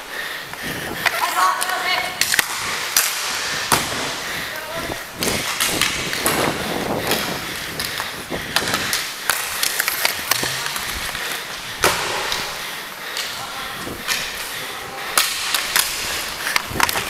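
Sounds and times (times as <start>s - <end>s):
skate wheels rolling and scraping: 0.0s - 17.0s
hockey sticks and puck clacking: 0.5s - 17.0s.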